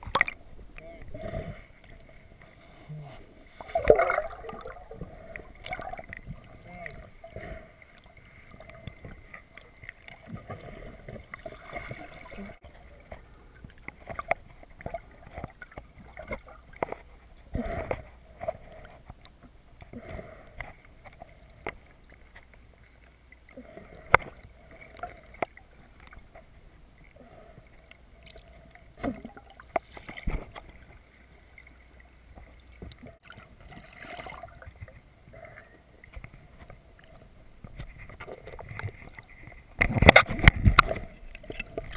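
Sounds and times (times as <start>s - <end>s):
muffled water sloshing underwater: 0.0s - 41.9s.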